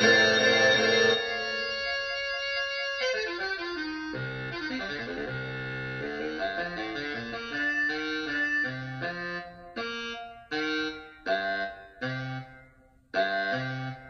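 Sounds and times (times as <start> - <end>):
concert band music: 0.0 - 12.4
baritone saxophone: 0.0 - 12.6, 13.2 - 14.0.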